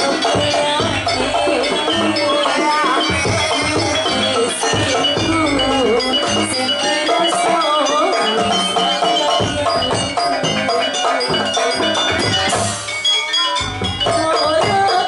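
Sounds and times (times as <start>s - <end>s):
hand drums beating: 0.0s - 15.0s
pitch-bending melodic line: 0.0s - 15.0s
ringing metallophone: 0.0s - 15.0s.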